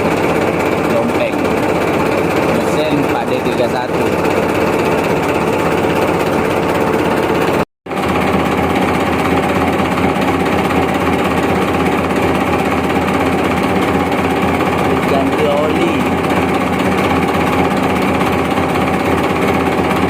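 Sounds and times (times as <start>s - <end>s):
boat diesel engine running: 0.0s - 20.0s.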